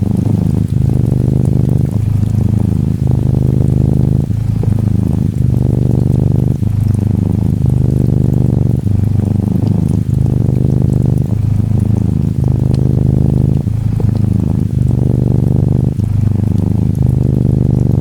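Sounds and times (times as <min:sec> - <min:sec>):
gentle rain pattering: 0:00.0 - 0:18.0
kitten purring: 0:00.0 - 0:18.0.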